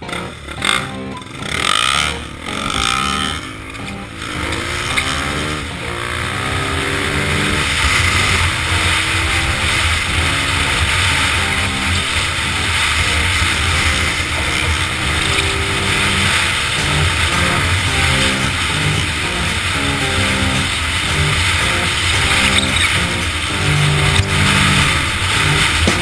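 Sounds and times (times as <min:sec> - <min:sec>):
dirt bike engine revving: 0:00.0 - 0:26.0
quad engine revving: 0:00.0 - 0:26.0.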